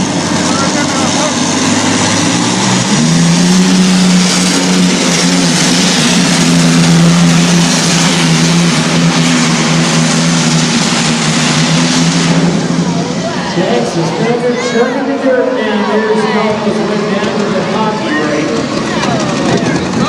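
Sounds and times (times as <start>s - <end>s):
truck engine at full throttle: 0.0s - 20.0s.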